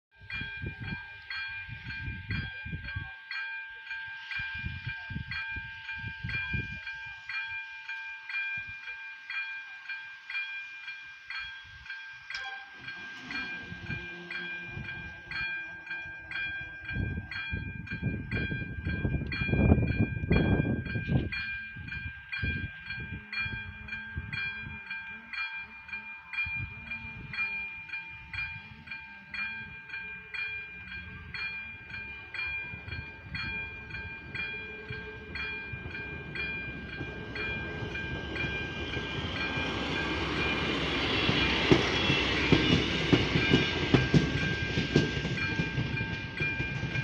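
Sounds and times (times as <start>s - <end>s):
level-crossing warning bell: 0.2s - 47.0s.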